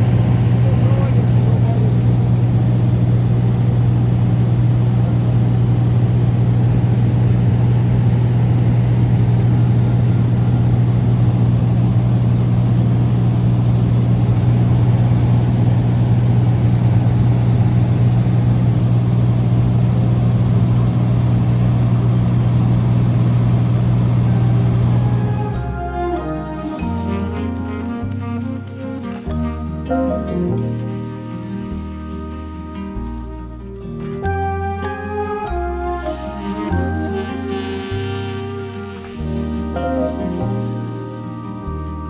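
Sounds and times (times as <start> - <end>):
propeller plane engine droning: 0.0 - 42.0.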